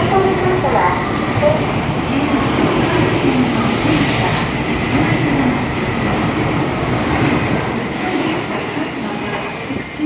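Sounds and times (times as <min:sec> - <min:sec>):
train wheels on rails: 0:00.0 - 0:10.0.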